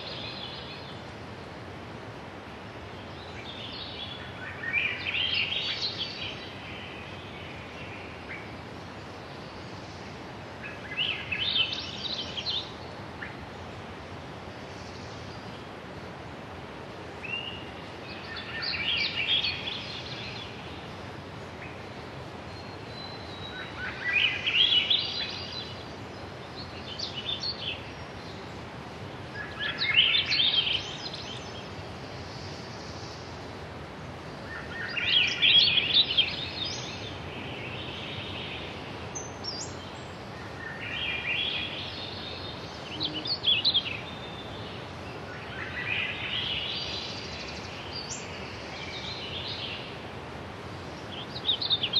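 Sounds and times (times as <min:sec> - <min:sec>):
background hiss: 0:00.0 - 0:51.9
songbird singing: 0:00.0 - 0:51.9.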